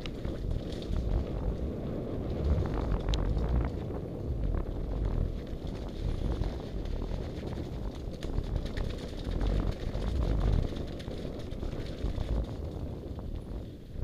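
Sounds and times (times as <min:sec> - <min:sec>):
bike tyres rumbling on dirt: 0:00.0 - 0:14.0
wind buffeting the microphone: 0:00.0 - 0:14.0.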